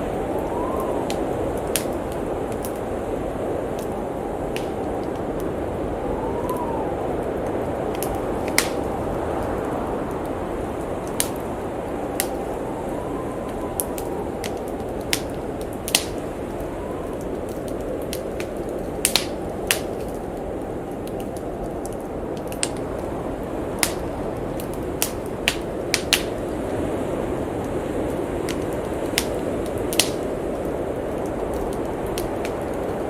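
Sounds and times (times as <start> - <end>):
howling blizzard wind: 0.0 - 33.0
whistling wind: 0.0 - 33.0
wood fire crackling and popping: 0.0 - 33.0.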